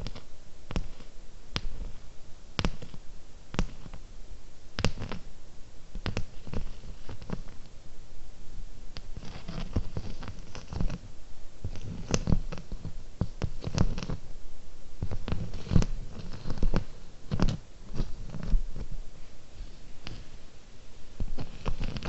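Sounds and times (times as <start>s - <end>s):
soft rustling: 0.0s - 22.0s.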